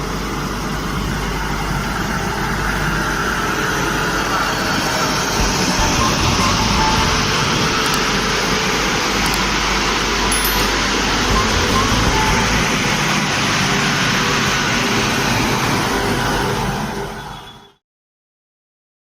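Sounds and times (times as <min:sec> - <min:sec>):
train rushing past: 0:02.0 - 0:17.3.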